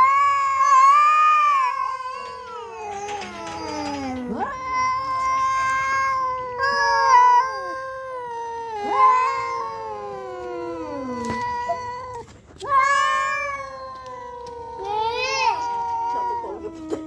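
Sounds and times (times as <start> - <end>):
cats yowling: 0.0 - 17.0.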